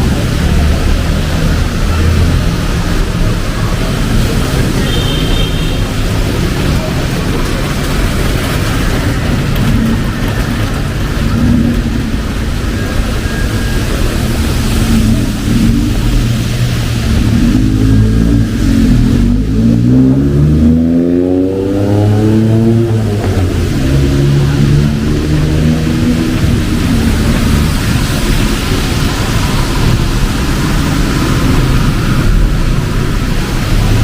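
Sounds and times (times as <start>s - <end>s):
rain hissing: 0.0s - 34.0s
street traffic: 0.0s - 34.0s.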